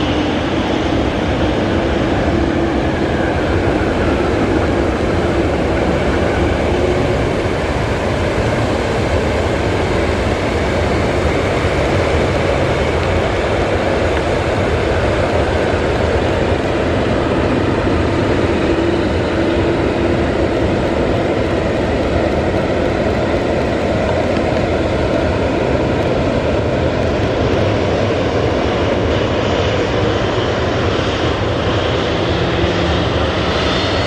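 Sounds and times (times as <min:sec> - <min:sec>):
jet engine whine: 0:00.0 - 0:34.0
jet engines rushing hum: 0:00.0 - 0:34.0.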